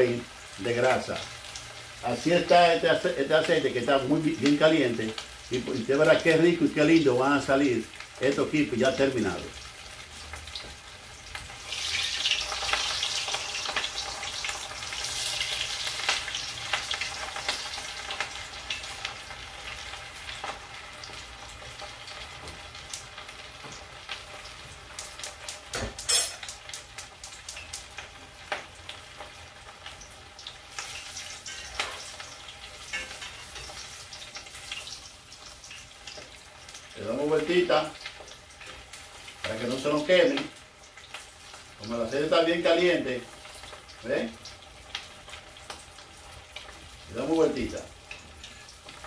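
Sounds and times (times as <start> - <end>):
food frying in hot oil: 0.0 - 49.0.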